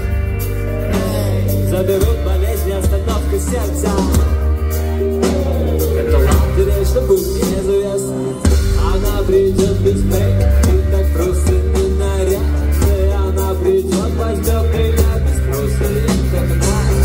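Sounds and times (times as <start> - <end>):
rap music over sound system: 1.0 - 4.3, 5.0 - 17.0.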